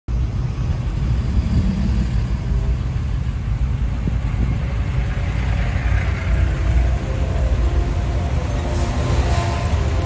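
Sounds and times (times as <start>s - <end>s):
road traffic rumble: 0.1s - 10.0s.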